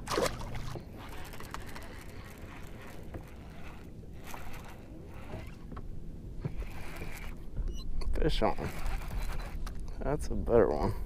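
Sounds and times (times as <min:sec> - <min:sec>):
waves lapping against boat hull: 0:00.0 - 0:09.9.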